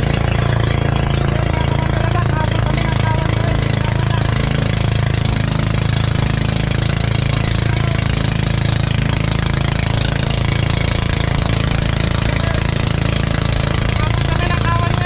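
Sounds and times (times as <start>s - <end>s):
boat engine running: 0.0s - 15.0s
rush of boat wake: 0.0s - 15.0s.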